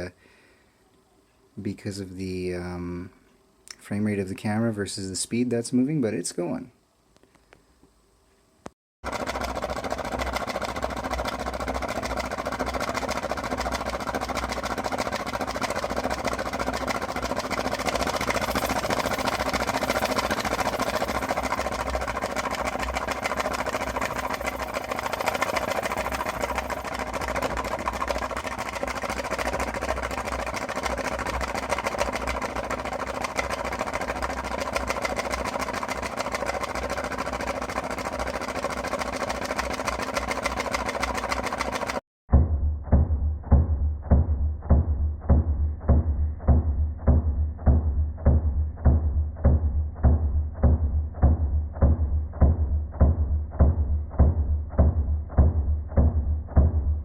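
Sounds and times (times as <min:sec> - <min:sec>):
engine ticking with low flutter: 0:09.1 - 0:57.0.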